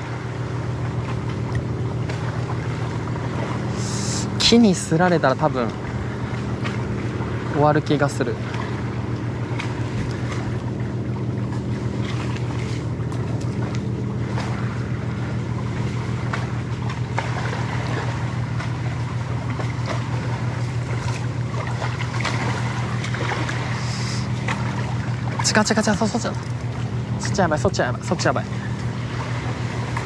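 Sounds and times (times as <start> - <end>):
motor humming: 0.0 - 30.0.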